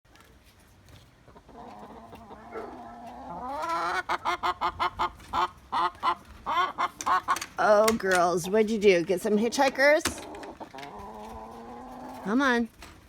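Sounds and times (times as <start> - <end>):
hens clucking: 1.2 - 12.6.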